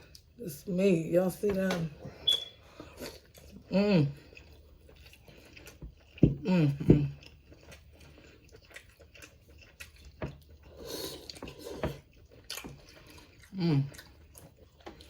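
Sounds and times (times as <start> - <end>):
chewing and mouth smacking: 2.2 - 15.0.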